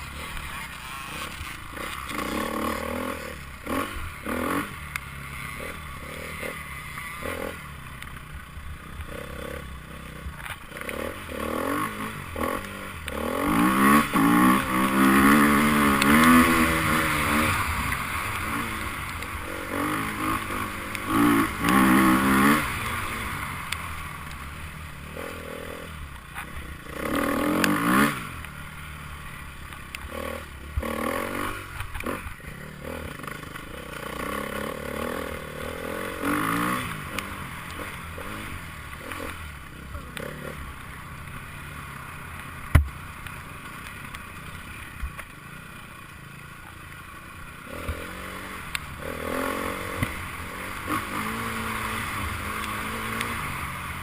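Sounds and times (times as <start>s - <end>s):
motorcycles passing and revving: 0.0s - 54.0s.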